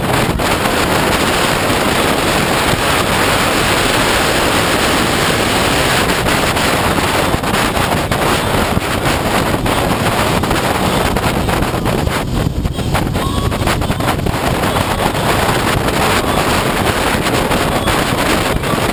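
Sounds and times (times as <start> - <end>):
motorcycle running: 0.0 - 18.9
wind buffeting microphone: 0.0 - 18.9.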